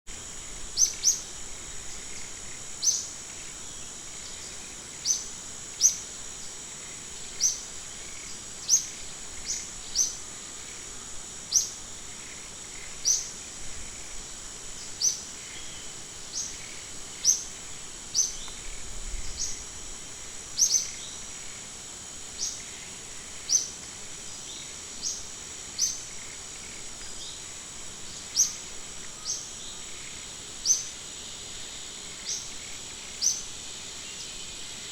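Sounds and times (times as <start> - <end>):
high-pitched insect drone: 0.1 - 34.9.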